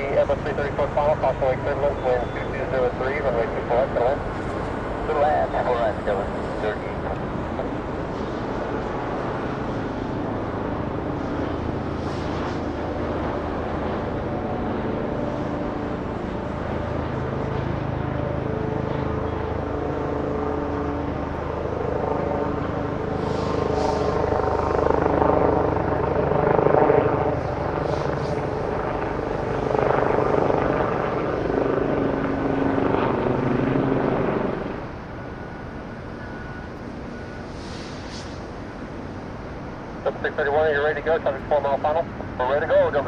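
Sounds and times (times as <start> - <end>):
jet plane engines on approach: 0.0 - 43.0.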